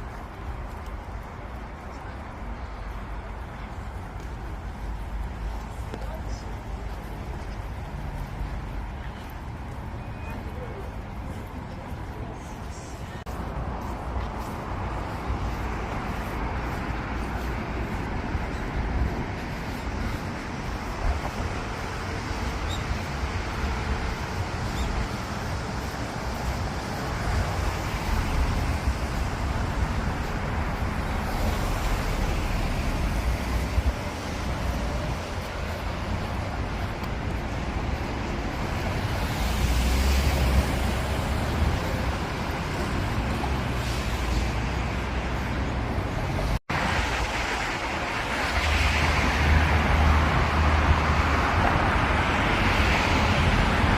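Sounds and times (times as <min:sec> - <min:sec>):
road traffic noise: 0:00.0 - 0:53.9.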